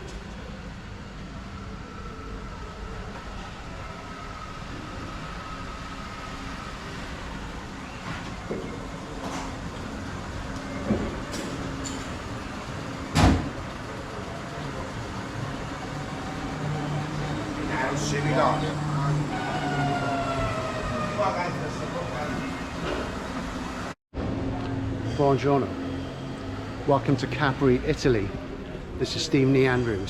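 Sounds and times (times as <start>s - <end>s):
low vehicle rumble: 0.0s - 30.0s.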